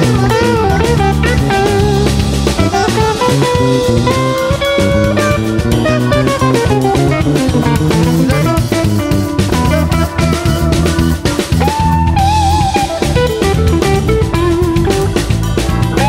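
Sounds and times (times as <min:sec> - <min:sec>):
bass: 0:00.0 - 0:16.0
drum kit: 0:00.0 - 0:16.0
electric guitar: 0:00.0 - 0:16.0.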